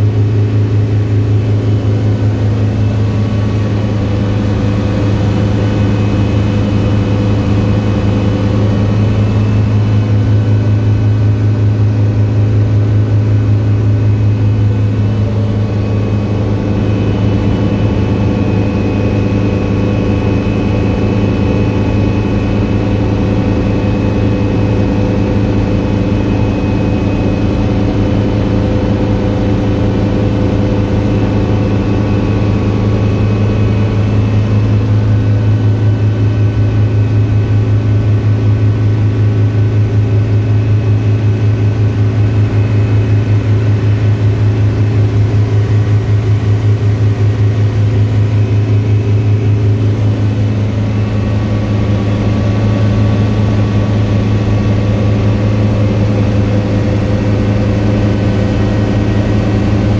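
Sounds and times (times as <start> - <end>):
helicopter engine and rotor hum: 0.0 - 59.9.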